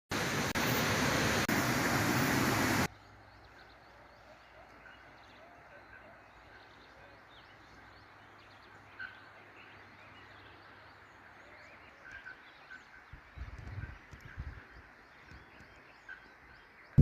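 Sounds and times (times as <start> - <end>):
birds or insects chirping: 2.3 - 17.0.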